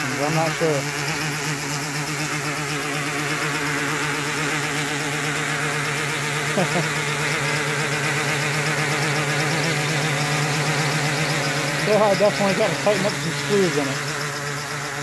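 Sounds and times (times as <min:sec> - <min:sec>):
quadcopter motors humming: 0:00.0 - 0:15.0.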